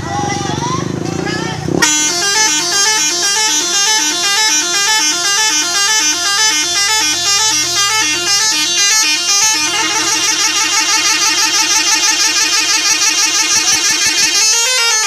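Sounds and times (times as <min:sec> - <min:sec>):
bus air horns playing melody: 0:01.8 - 0:15.0.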